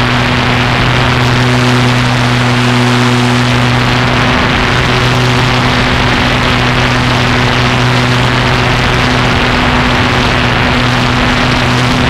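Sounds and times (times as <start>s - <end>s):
rushing noise: 0.0s - 12.0s
small aircraft engine humming: 0.0s - 12.0s.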